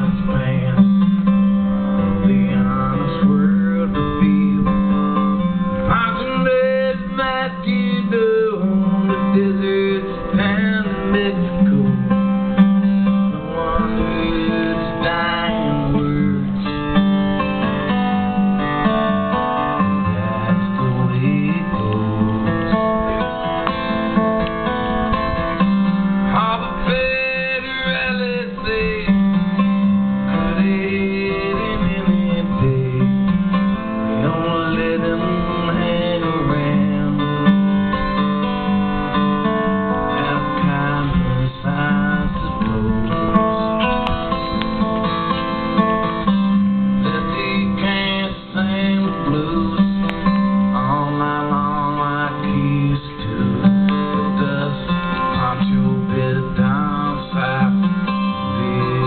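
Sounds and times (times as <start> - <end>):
guitar playing: 0.0 - 59.0.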